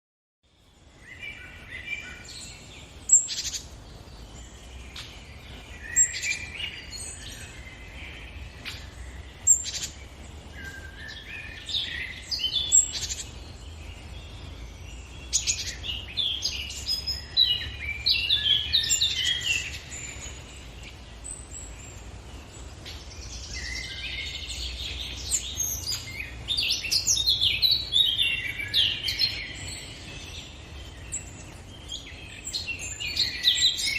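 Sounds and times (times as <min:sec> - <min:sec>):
birds chirping and singing: 0:00.5 - 0:33.9.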